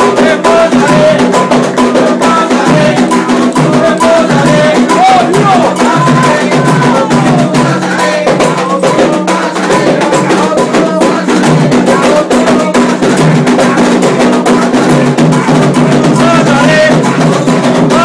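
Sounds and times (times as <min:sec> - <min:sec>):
hand drums beating: 0:00.0 - 0:18.0.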